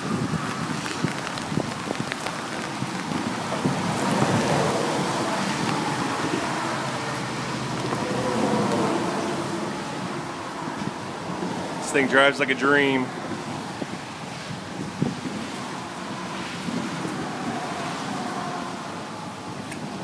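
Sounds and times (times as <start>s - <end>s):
rain falling on water: 0.0s - 20.0s.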